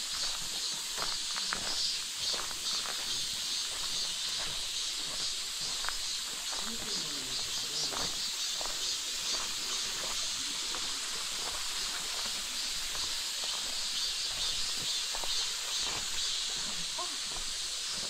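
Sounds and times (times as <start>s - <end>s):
footsteps on gravel path: 0.0s - 18.0s
forest ambience hiss: 0.0s - 18.0s.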